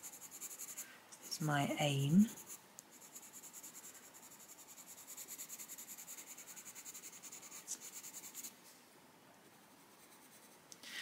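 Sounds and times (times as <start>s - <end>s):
coloured pencil scratching on paper: 0.0s - 8.5s, 9.4s - 10.6s.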